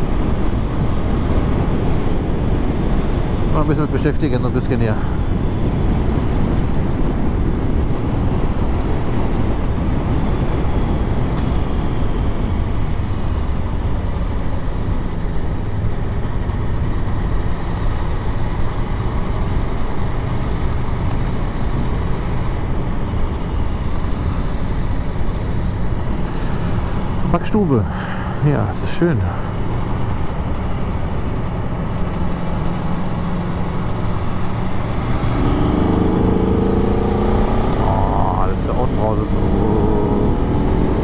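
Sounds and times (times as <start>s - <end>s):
rush of riding noise: 0.0s - 41.0s.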